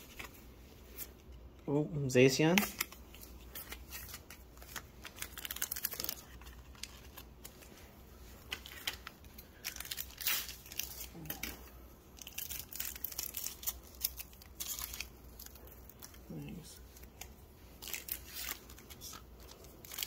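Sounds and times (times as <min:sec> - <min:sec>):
foil wrappers crinkling and tearing: 0:02.5 - 0:20.0.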